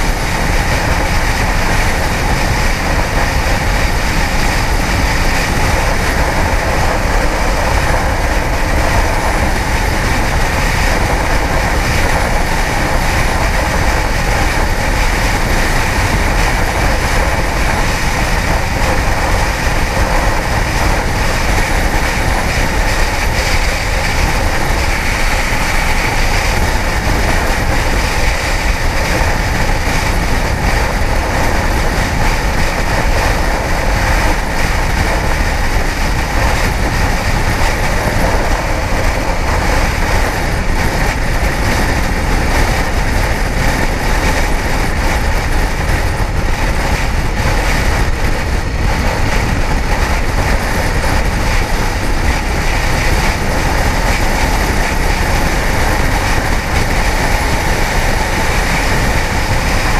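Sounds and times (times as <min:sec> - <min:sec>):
motorcycle engine and wind rush: 0:00.0 - 0:59.9.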